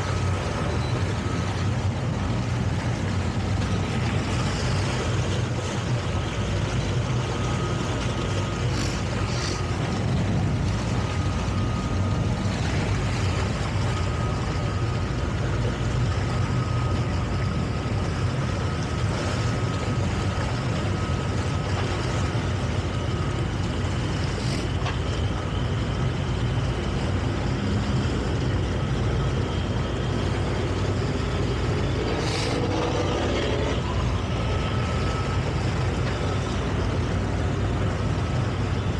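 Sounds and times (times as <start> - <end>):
boat engine rumbling: 0.0 - 38.9
faint steady whine: 0.0 - 38.9.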